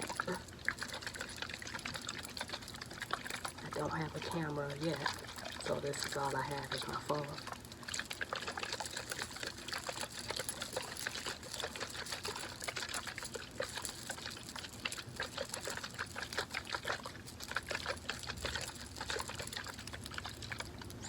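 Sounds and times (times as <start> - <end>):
wet crackling and squishing in hair: 0.0 - 21.0.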